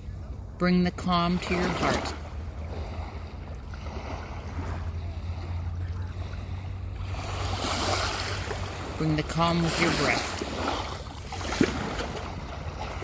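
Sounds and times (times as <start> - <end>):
low rumble: 0.0 - 13.0
ocean waves washing in: 0.0 - 13.0.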